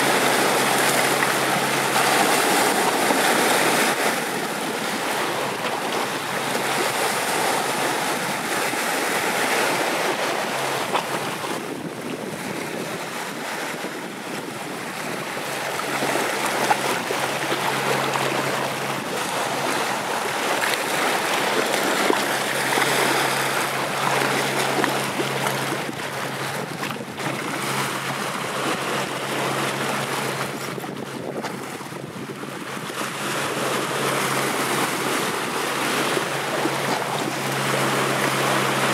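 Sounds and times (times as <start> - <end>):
waves breaking on rocks: 0.0 - 38.9.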